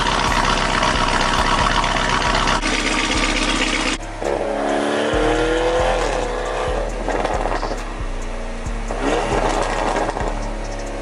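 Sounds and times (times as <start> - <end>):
car engine accelerating: 0.0 - 11.0
car engine idling: 0.0 - 11.0.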